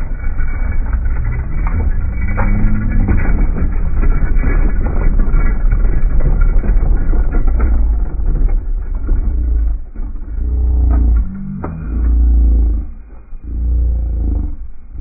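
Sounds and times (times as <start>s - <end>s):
plastic wheels rattling on concrete: 0.0s - 14.8s.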